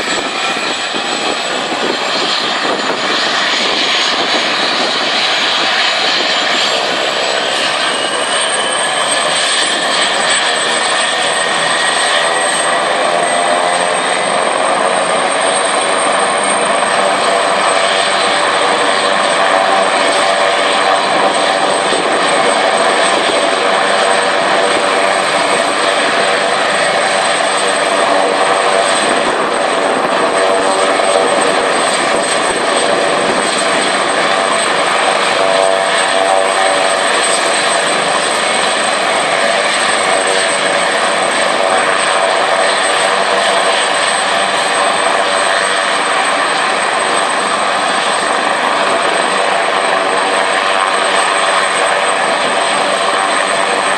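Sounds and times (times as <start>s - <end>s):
helicopter rotors turning: 0.0s - 53.9s
helicopter turbine whine: 0.0s - 53.9s.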